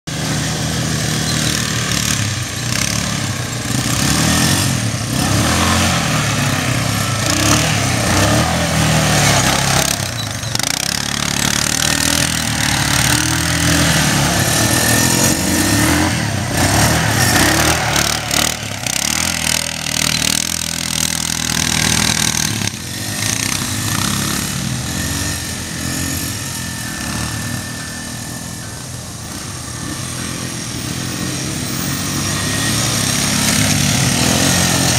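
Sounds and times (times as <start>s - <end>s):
small engine revving: 0.1s - 34.9s.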